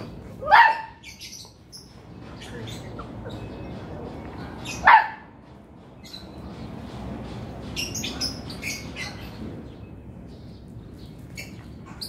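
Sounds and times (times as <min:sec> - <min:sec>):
small birds chirping: 0:00.0 - 0:05.2, 0:05.8 - 0:12.0.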